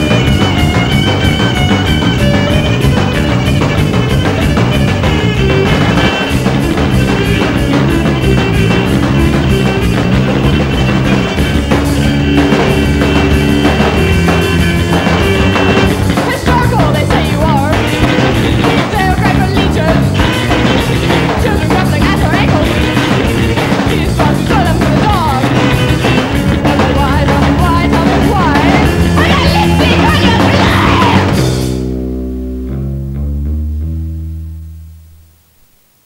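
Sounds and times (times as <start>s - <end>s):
rock band music: 0.0s - 35.2s.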